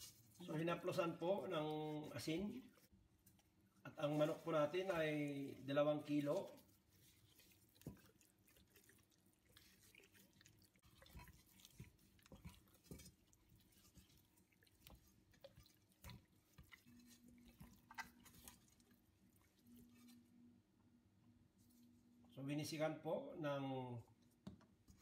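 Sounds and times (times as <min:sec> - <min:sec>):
hands rubbing raw chicken: 0:00.0 - 0:20.3.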